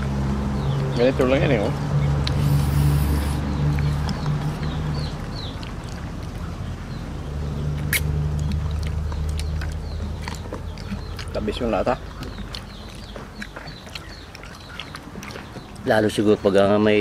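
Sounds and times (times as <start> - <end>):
people chewing and sucking: 0.0 - 16.3.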